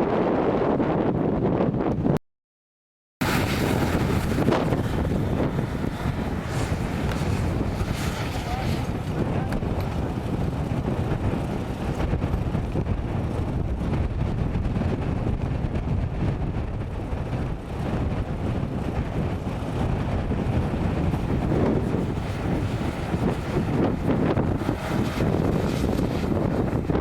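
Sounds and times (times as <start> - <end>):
wind buffeting microphone: 0.0 - 2.2, 3.2 - 27.0.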